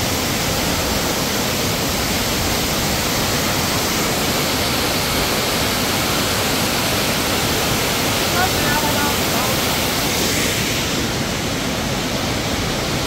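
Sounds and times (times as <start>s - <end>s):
fast-flowing water rushing: 0.0s - 13.0s.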